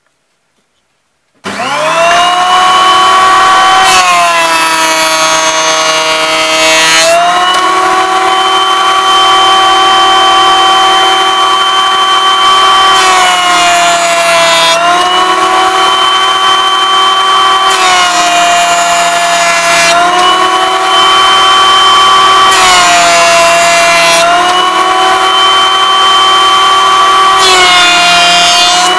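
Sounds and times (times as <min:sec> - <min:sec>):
planer cutting wood rasp: 0:01.4 - 0:28.9
planer motor whining: 0:01.4 - 0:28.9.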